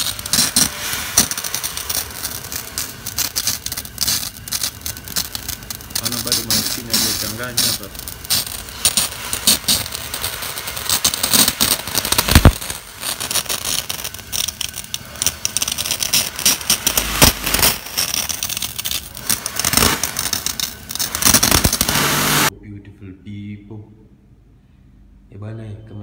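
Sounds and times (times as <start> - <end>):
steady hiss: 0.0 - 22.5.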